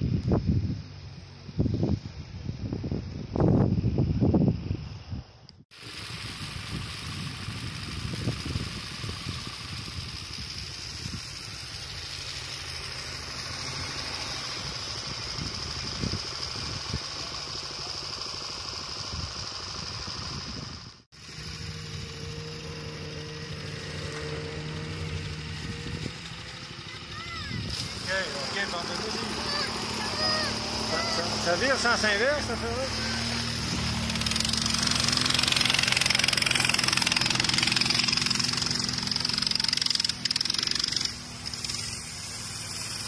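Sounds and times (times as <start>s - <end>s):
snowmobile engine running: 5.8s - 43.0s.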